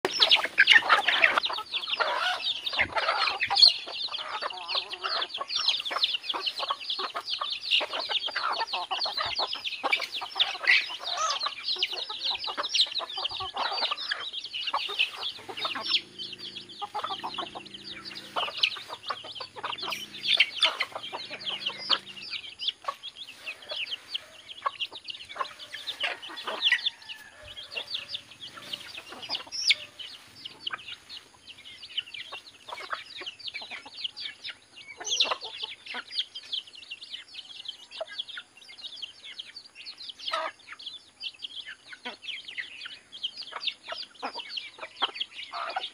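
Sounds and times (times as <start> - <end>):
chickens clucking and chirping: 0.0 - 45.9.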